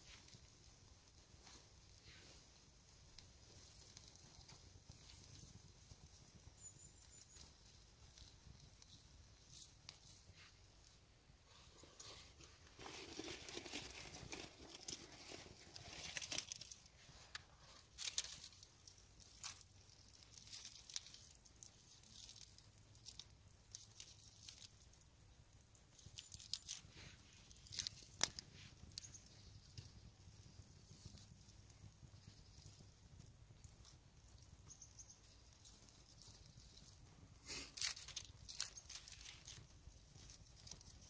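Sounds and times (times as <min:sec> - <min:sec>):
twig fire crackling and popping: 0:00.0 - 0:41.0.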